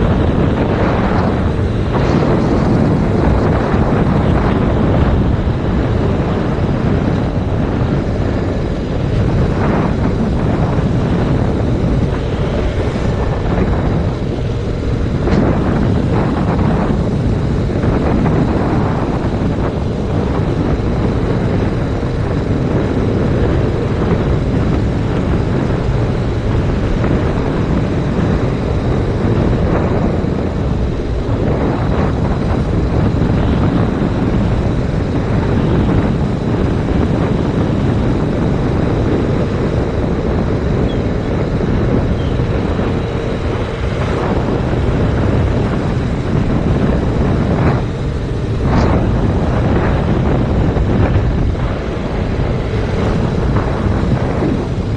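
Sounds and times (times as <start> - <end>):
motorcycle engine running: 0.0 - 54.9
wind rush on microphone: 0.0 - 54.9.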